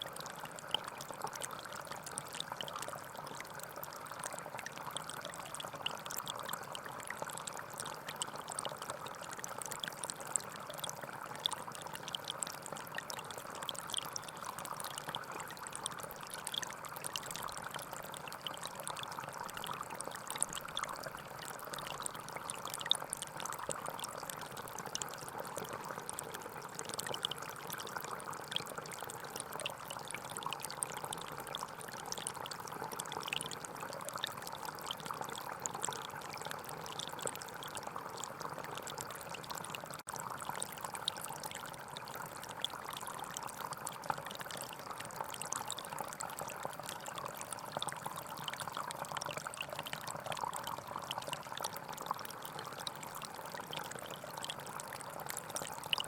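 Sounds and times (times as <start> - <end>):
stream trickling: 0.0 - 56.0.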